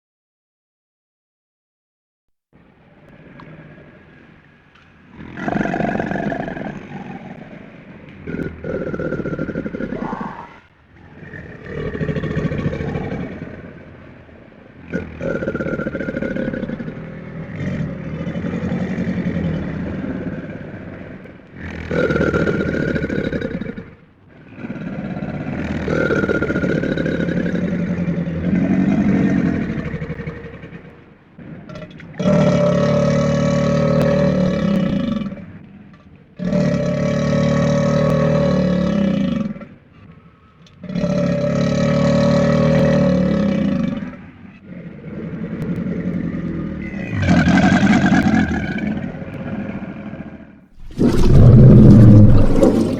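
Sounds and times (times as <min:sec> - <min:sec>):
crocodile growling calls: 0:02.8 - 0:52.9.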